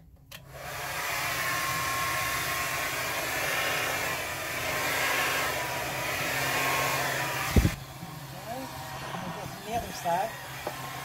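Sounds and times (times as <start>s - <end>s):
hair dryer running: 0.4s - 11.0s.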